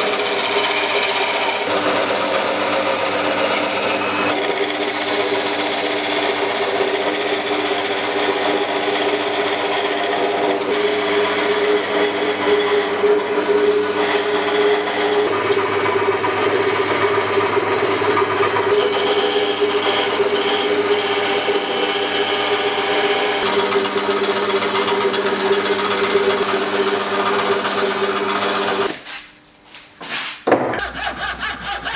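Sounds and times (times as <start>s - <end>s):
lathe motor humming: 0.0s - 29.0s
chisel scraping spinning wood: 0.0s - 29.2s, 30.0s - 31.9s.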